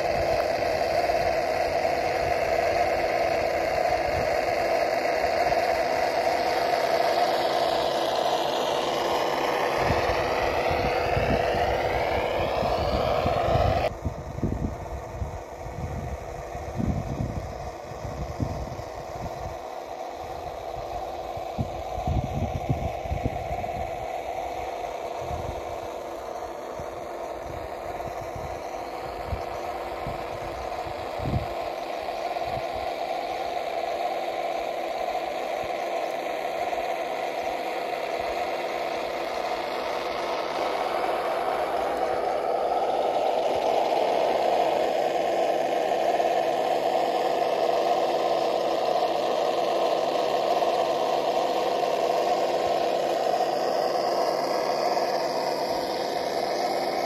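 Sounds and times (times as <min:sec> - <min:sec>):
electric drive running noise: 0:00.0 - 0:57.0
simulated truck engine sound: 0:00.0 - 0:57.0.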